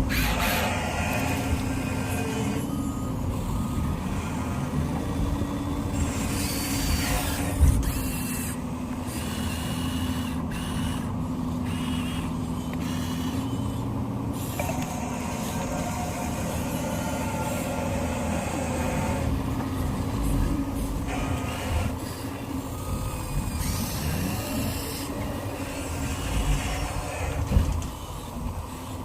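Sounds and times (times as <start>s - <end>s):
model truck motor hum: 0.0s - 29.0s.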